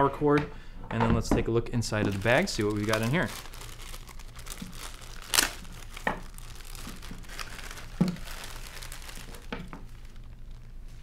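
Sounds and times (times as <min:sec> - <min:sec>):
plastic bag crinkling: 0:01.9 - 0:11.0.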